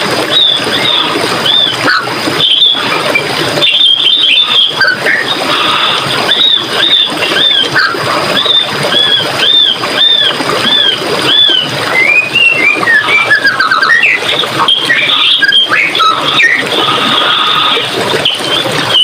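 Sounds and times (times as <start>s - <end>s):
flowing water rushing: 0.0s - 19.0s
songbird whistling: 0.3s - 5.3s, 6.3s - 16.6s.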